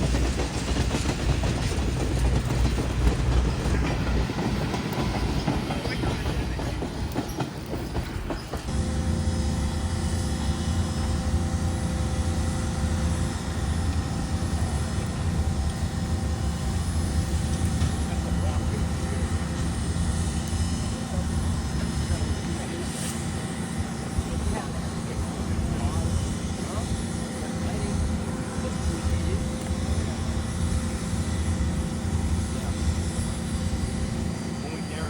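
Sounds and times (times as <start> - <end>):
freight train wheels clicking on rails: 0.0 - 35.0.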